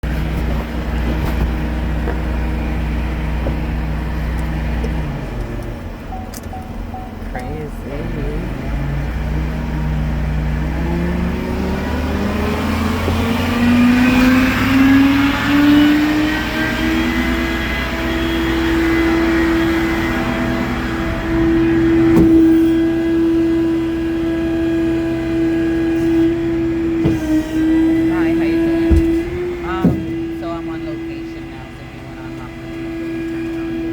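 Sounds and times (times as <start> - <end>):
tow truck engine running: 0.0 - 33.9.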